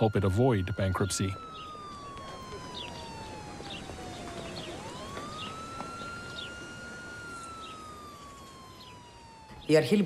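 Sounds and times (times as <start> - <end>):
emergency siren wailing: 0.0 - 10.0
low background hum: 0.0 - 10.0.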